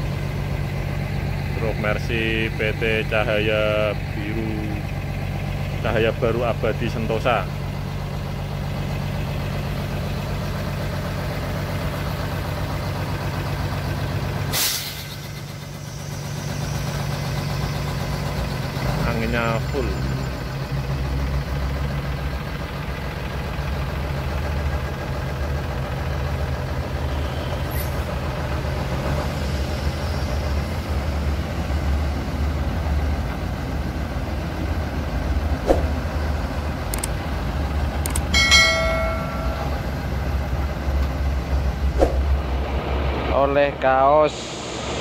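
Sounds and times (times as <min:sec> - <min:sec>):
diesel truck engine idling: 0:00.0 - 0:45.0.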